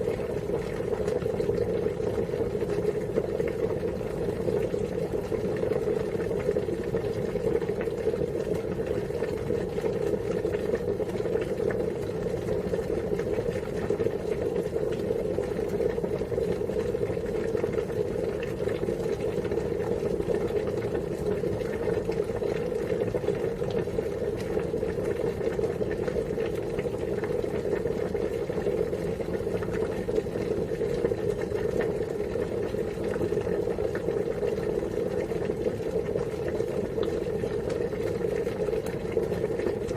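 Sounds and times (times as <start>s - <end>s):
water boiling: 0.0s - 39.9s.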